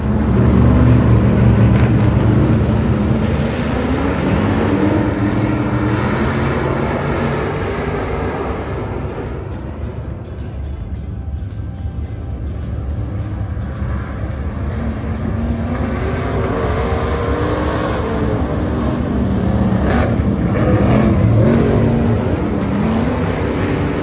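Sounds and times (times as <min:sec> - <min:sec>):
stock car engines racing: 0:00.0 - 0:24.0.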